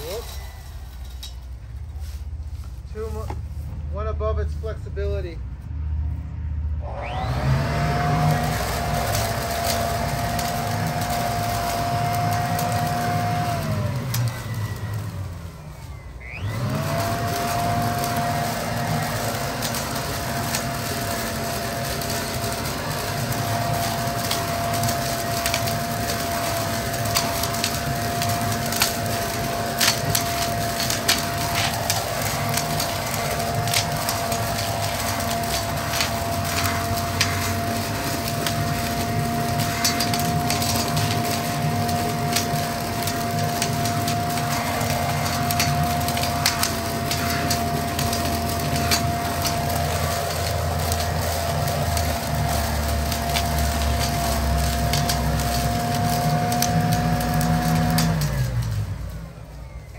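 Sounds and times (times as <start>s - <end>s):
leaves and sticks cracking: 0.0s - 5.2s, 7.0s - 59.9s
leaf blower vac whining: 0.0s - 5.7s, 6.3s - 59.9s.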